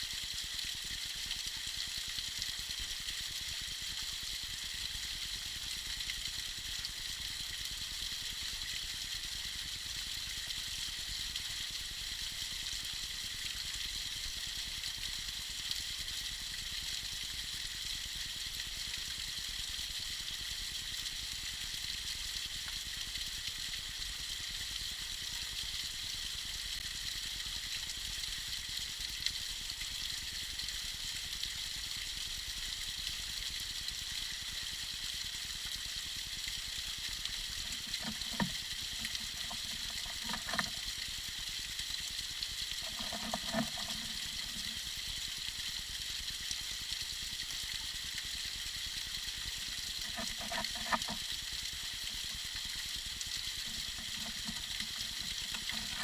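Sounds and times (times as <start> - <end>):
small waterfall trickling: 0.0 - 56.0
water gurgles: 0.0 - 56.0.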